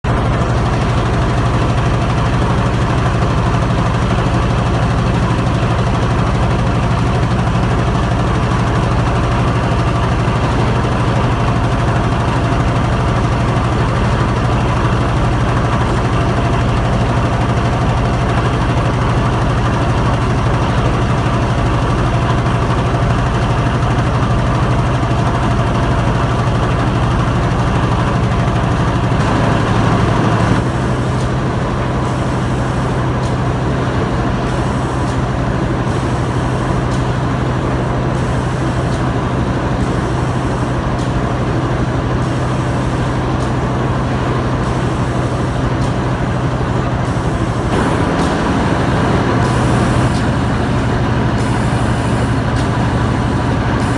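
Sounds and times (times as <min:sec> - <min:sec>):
factory machinery droning: 0:00.0 - 0:53.9.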